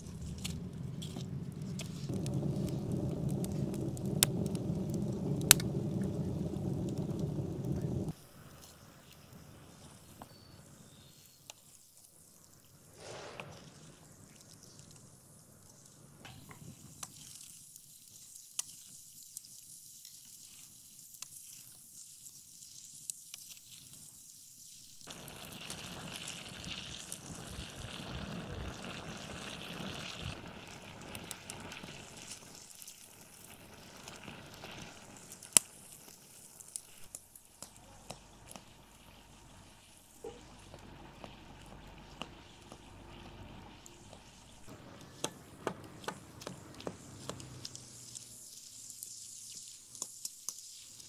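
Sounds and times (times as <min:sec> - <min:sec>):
burning wood crackling: 0:00.0 - 0:21.6, 0:25.0 - 0:51.0
pot sizzling and simmering: 0:00.0 - 0:51.0.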